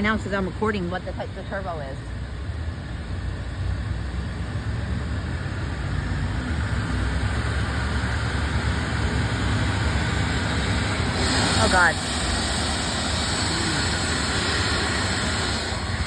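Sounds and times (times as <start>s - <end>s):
aircraft engine rumble: 0.0s - 16.0s.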